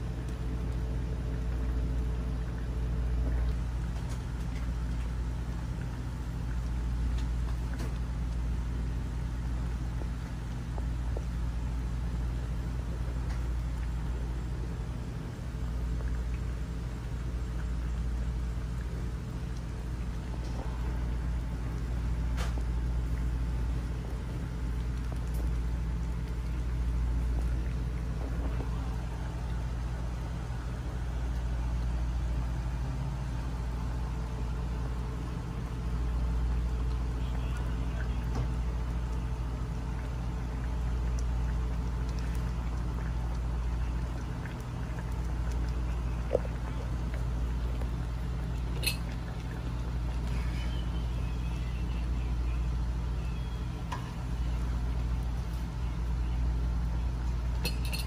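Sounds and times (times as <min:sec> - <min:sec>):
kitchen rumble and hum: 0:00.0 - 0:58.0.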